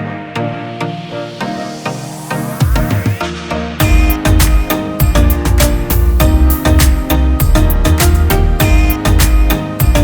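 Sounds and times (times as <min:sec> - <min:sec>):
electronic instrumental music: 0:00.0 - 0:10.0.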